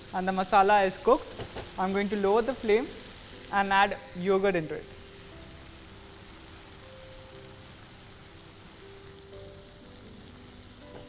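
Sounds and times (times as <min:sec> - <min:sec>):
masala sizzling in a pan: 0:00.0 - 0:11.0
soft background music: 0:00.0 - 0:11.0.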